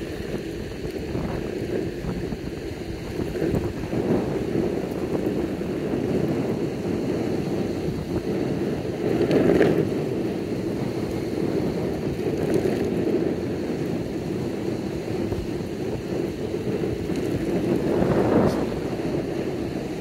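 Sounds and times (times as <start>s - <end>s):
wheels rolling over asphalt: 0.0s - 20.0s
wind buffeting microphone: 0.0s - 20.0s.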